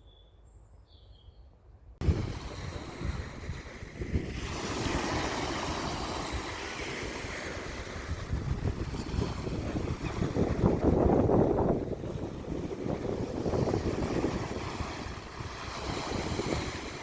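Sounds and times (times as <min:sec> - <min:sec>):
wind buffeting microphone: 0:02.0 - 0:17.0
wind rushing over ground: 0:02.0 - 0:17.0.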